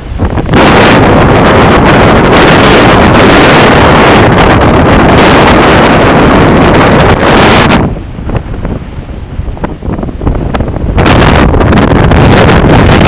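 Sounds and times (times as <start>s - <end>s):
heavy rain: 0.0s - 13.0s
wind buffeting microphone: 0.0s - 13.0s.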